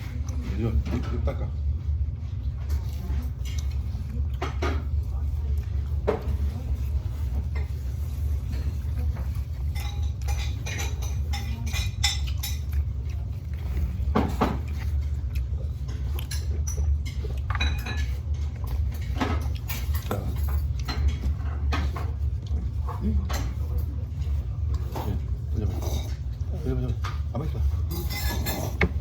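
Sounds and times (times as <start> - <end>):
utensils clattering against dishes: 0.0 - 1.6, 2.6 - 29.0
steady low hum: 0.0 - 29.0.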